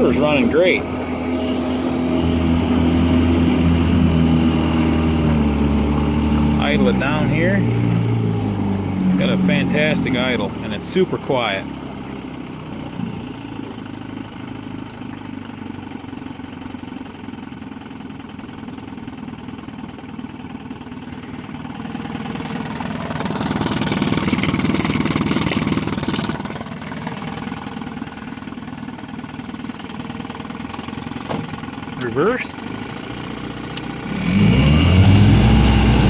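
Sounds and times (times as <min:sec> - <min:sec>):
outboard motor idling: 0:00.0 - 0:36.0.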